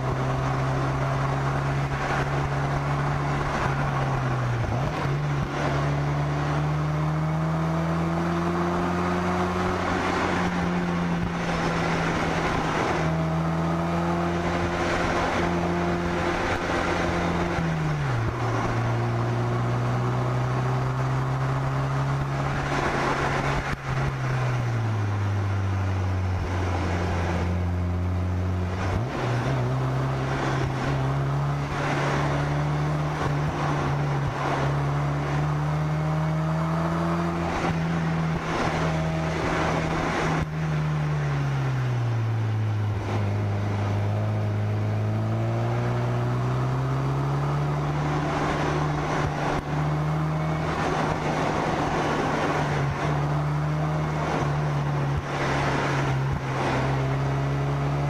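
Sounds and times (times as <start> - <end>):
car engine driving: 0.0 - 58.0
road and wind noise: 0.0 - 58.0.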